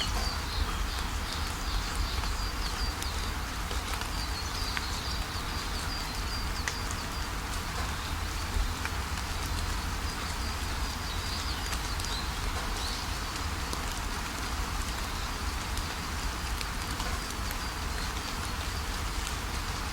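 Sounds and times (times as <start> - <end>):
rain falling: 0.0 - 19.9
raindrop ticks: 0.0 - 19.9.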